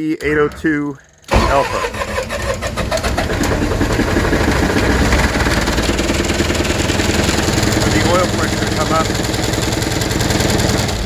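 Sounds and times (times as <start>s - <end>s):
diesel generator engine knocking: 1.7s - 11.0s.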